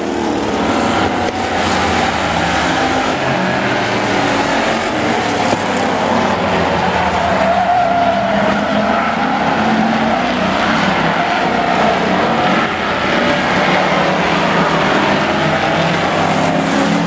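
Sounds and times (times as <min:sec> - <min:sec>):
truck engines racing: 0:00.0 - 0:17.0
tyres squealing: 0:00.0 - 0:17.0.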